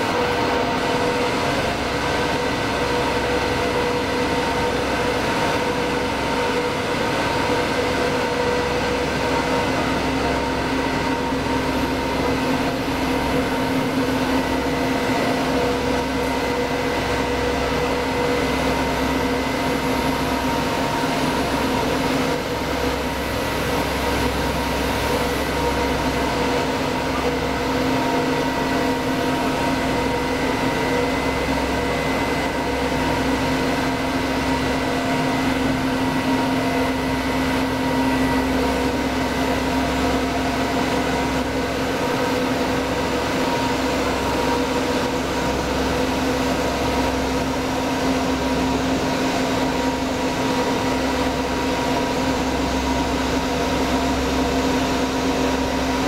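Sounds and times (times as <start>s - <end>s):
industrial machine droning hum: 0.0s - 56.0s.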